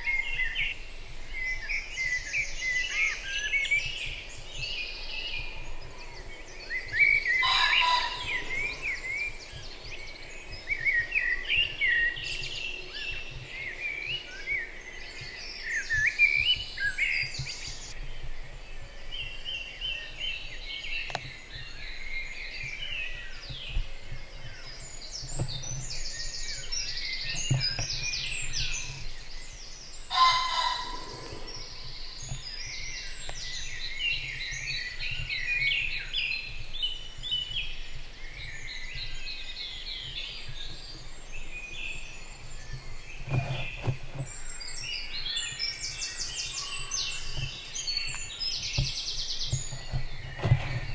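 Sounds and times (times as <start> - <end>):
songbirds chorus: 0.0 - 50.9
loud bird calls: 1.8 - 18.0, 21.0 - 50.9.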